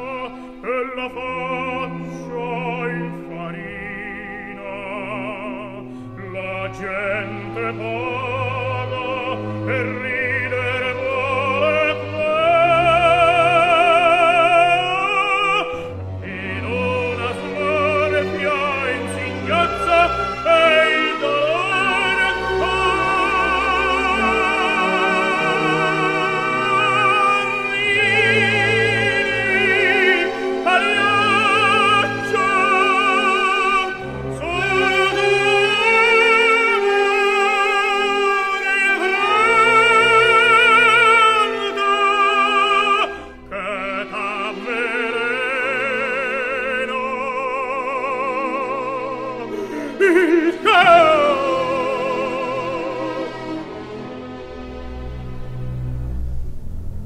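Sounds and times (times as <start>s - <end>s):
operatic singing with vibrato: 0.0s - 57.0s
sustained accompaniment: 0.0s - 57.0s.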